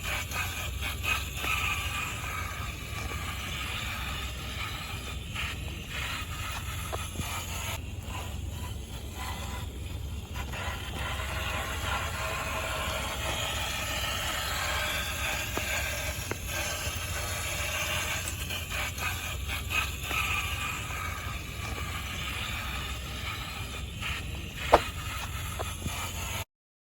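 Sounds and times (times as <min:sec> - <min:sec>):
tyres scraping on rock: 0:00.0 - 0:26.4
toy car motor hum: 0:00.0 - 0:26.5.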